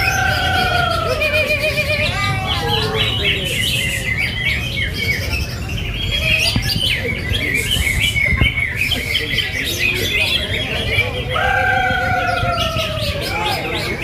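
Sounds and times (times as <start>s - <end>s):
chorus of birds singing: 0.0s - 14.0s.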